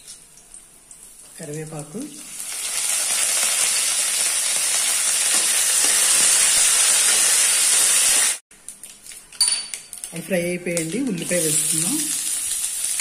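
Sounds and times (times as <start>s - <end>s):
curry leaves sizzling in hot oil: 0.8s - 8.4s, 9.9s - 13.0s.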